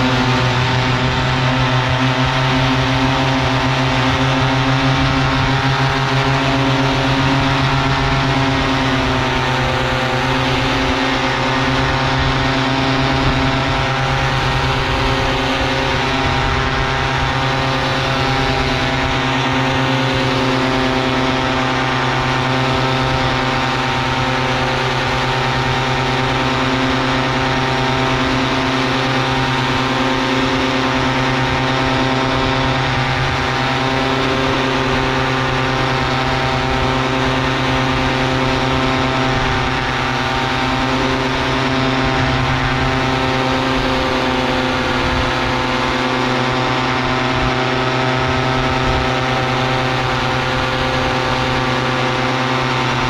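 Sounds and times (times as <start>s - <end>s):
paramotor engine and propeller: 0.0s - 53.0s.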